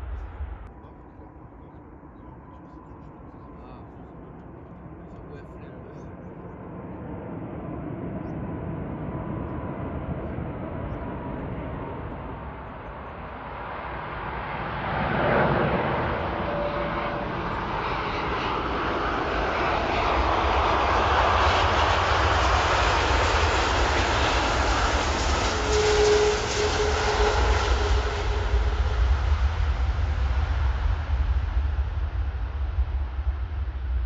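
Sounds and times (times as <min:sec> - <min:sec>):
jet engines passing close: 0:00.0 - 0:34.0.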